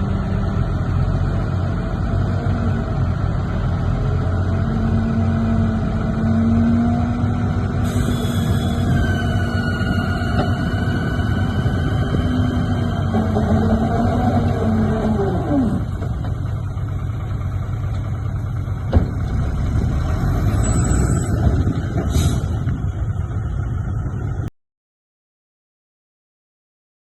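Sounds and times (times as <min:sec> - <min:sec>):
bulldozer diesel engine running: 0:00.0 - 0:24.5.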